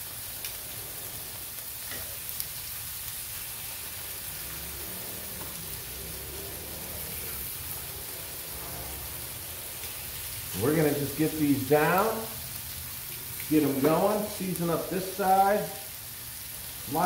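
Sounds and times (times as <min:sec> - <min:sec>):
chicken sizzling on a griddle: 0:00.0 - 0:17.0.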